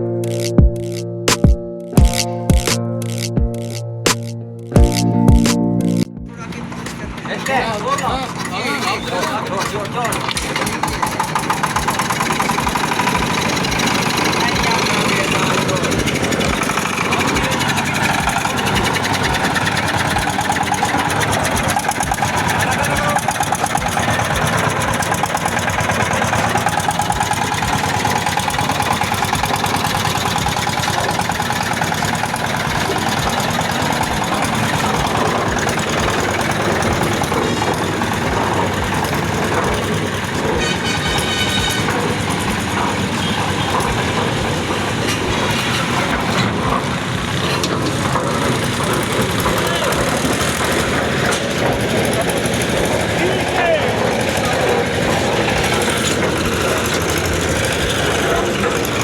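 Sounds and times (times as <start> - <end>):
concrete mixer engine pulsing: 0.0 - 59.0.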